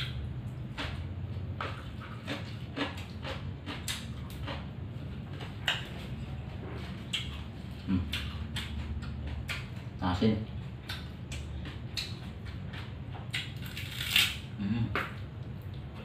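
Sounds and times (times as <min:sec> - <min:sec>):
man chewing wetly: 0:00.0 - 0:14.3
steady low hum: 0:00.0 - 0:16.0.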